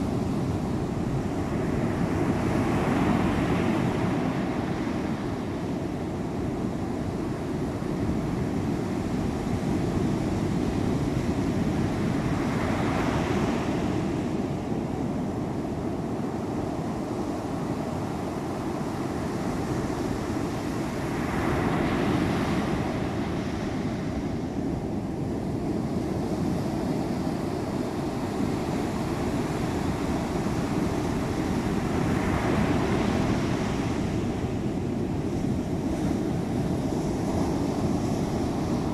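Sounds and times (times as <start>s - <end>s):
surf breaking on a beach: 0.0s - 38.9s
wind buffeting microphone: 0.0s - 38.9s.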